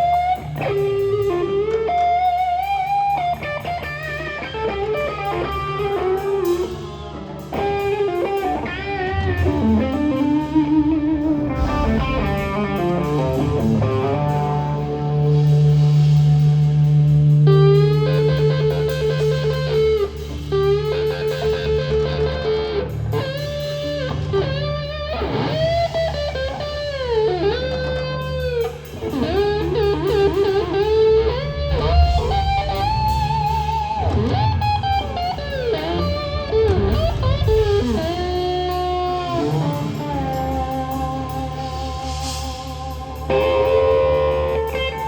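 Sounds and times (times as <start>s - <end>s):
blues-rock band playing: 0.0s - 45.0s
electric guitar solo: 0.0s - 45.0s.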